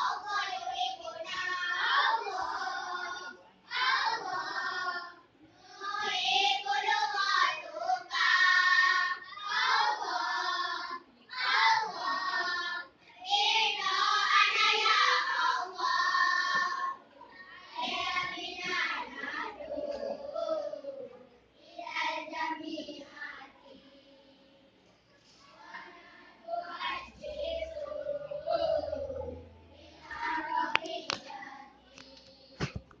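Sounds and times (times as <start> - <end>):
children singing in unison: 0.0 - 32.8.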